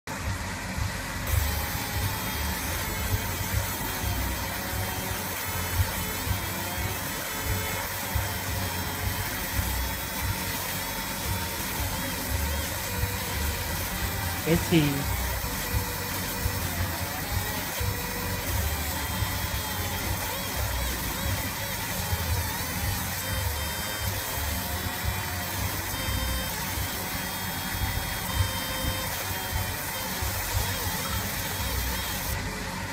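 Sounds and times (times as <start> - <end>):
laser machine hiss and whines: 0.1 - 32.9.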